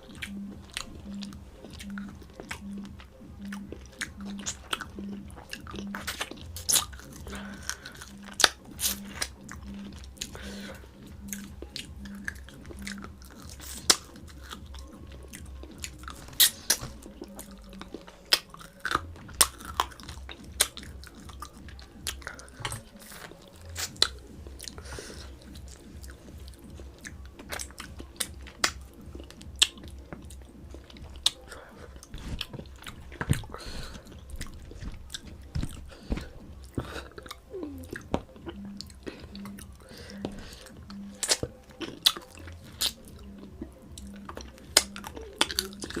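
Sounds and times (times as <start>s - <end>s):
mouth and teeth clicks: 0.0s - 46.0s
person chewing food: 0.0s - 46.0s.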